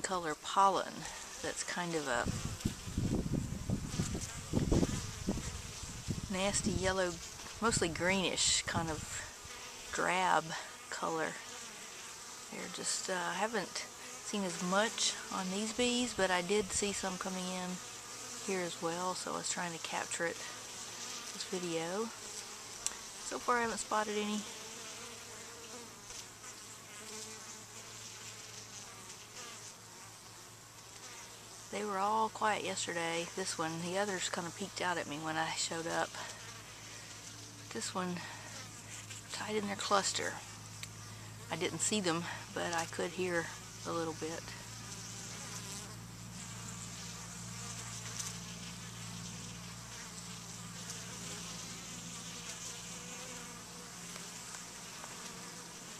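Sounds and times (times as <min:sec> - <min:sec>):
bees buzzing: 0:00.0 - 0:55.9.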